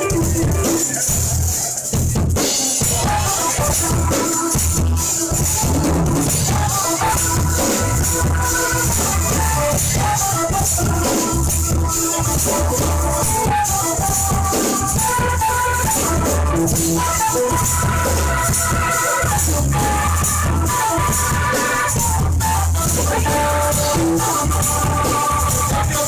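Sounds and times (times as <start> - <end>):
synthesizer keyboard: 0.0 - 1.6, 2.5 - 26.0
electric bass: 0.0 - 26.0
electric guitar: 0.0 - 26.0.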